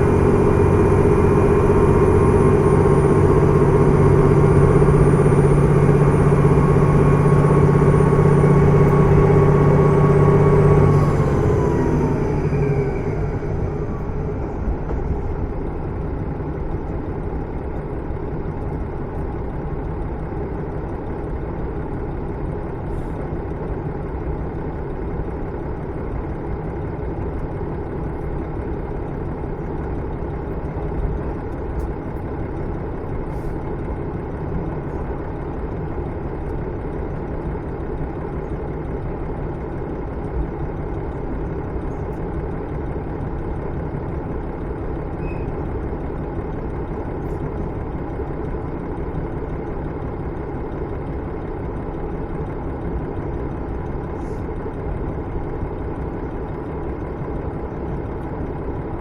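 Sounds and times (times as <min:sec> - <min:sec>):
train diesel engine and wheels rumbling: 0:00.0 - 0:59.0.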